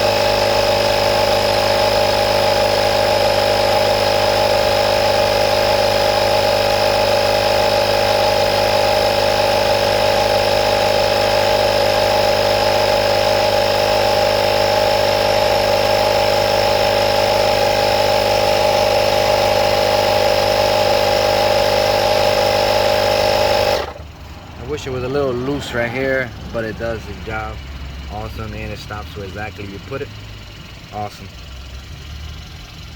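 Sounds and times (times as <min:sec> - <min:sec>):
air compressor motor drone: 0:00.0 - 0:32.9.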